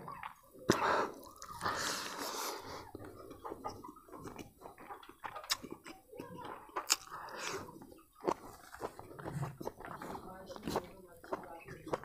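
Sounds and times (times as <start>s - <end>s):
wet chewing and lip smacks: 0.0s - 12.0s.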